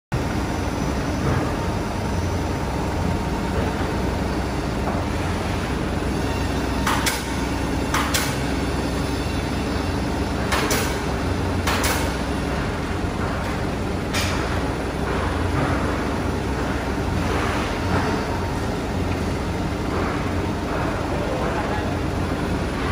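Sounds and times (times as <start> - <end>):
low machinery drone: 0.1 - 22.9.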